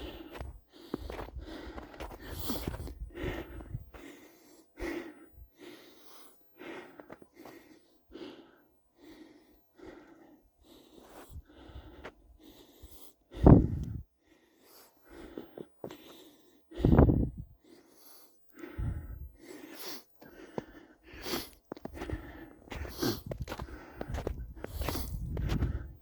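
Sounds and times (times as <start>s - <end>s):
person breathing hard: 0.0s - 26.0s.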